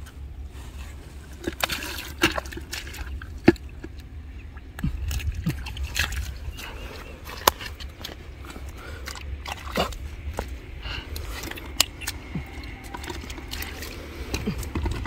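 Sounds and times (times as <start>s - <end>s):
hands splashing in muddy puddle: 1.3s - 4.0s, 4.6s - 15.0s.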